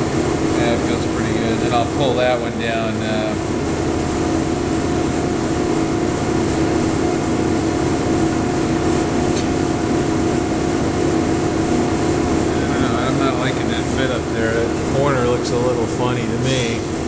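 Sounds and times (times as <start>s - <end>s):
machine hum with pitched tone: 0.0s - 17.0s.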